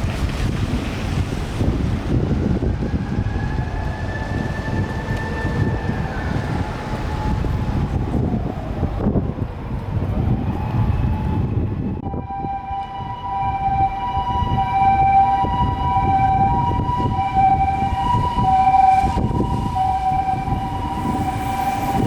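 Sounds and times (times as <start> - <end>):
traffic noise: 0.0 - 22.0
wind rumble: 0.0 - 22.0
faint ambulance siren: 2.1 - 22.0.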